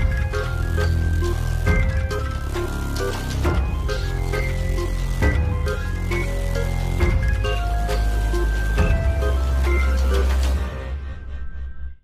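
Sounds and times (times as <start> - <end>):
instrumental cartoon music: 0.0 - 12.0.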